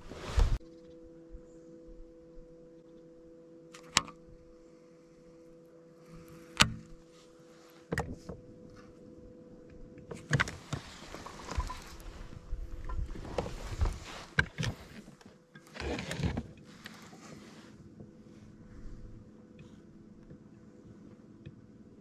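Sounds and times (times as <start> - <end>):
faint two-tone hum: 0.0 - 22.0.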